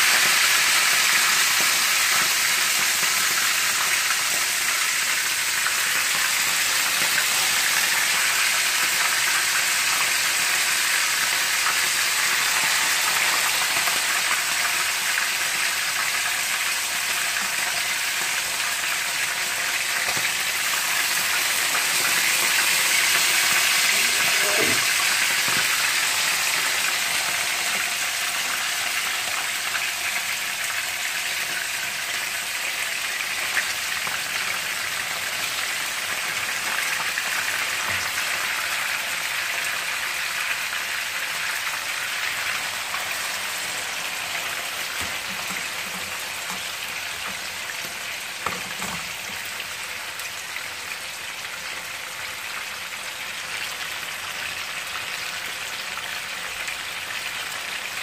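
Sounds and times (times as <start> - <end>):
chicken frying in hot oil: 0.0 - 58.0.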